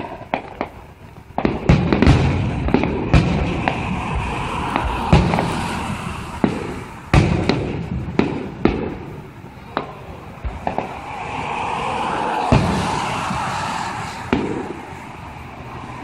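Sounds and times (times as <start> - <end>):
fireworks booming and cracking: 0.0 - 11.0, 12.5 - 15.3
steady background rush: 2.0 - 16.0.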